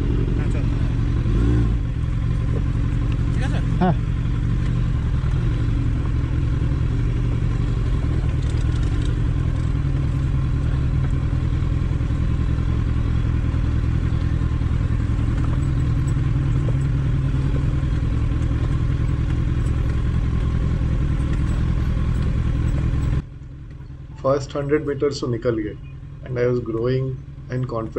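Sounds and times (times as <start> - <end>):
motorcycle engine running steadily: 0.0 - 27.9.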